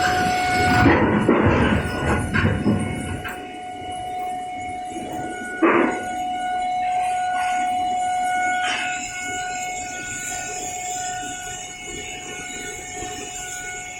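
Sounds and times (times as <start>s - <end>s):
pulsing high tone: 0.0s - 13.9s.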